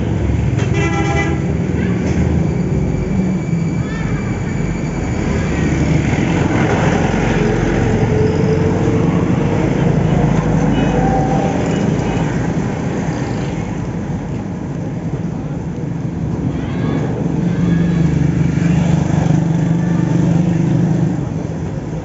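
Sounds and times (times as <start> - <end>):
street traffic engine rumble: 0.0 - 22.0.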